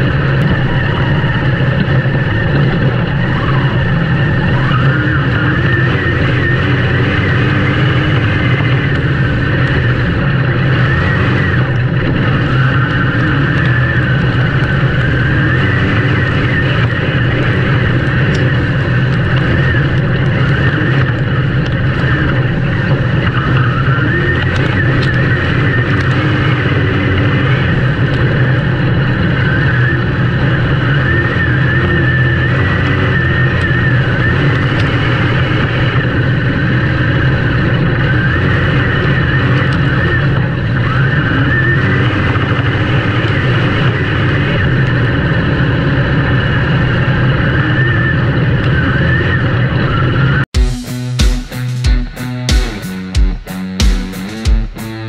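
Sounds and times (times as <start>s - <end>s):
race engines droning: 0.0s - 55.0s.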